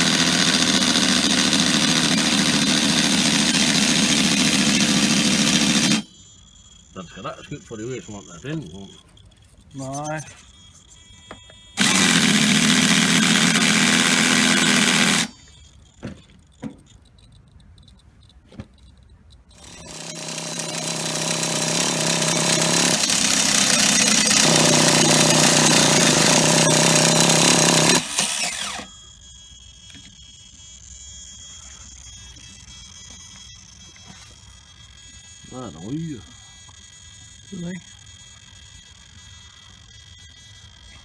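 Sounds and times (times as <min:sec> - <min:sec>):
starter motor spinning: 0:00.0 - 0:41.0.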